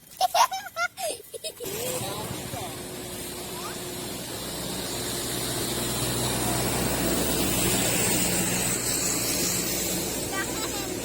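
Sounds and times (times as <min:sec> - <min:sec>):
road noise: 0:01.5 - 0:11.0
vehicle engine humming: 0:01.5 - 0:11.0.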